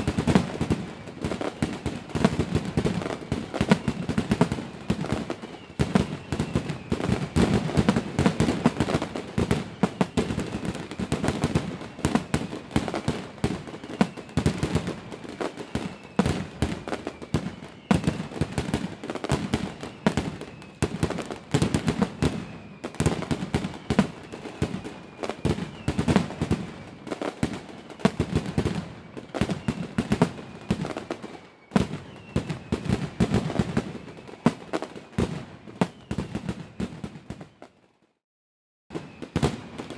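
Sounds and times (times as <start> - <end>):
fireworks bangs and crackles: 0.0 - 38.0, 38.9 - 39.9.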